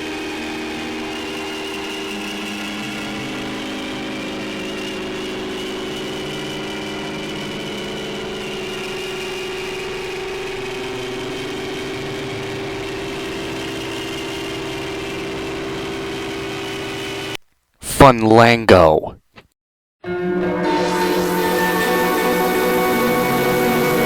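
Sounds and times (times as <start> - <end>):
electronic drone of held tones: 0.0 - 17.4, 20.1 - 24.0.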